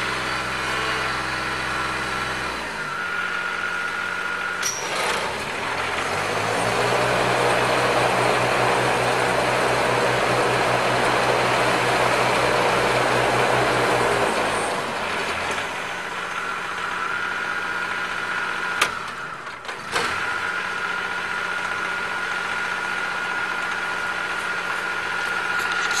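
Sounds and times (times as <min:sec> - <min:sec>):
mower diesel engine running: 0:00.0 - 0:26.0.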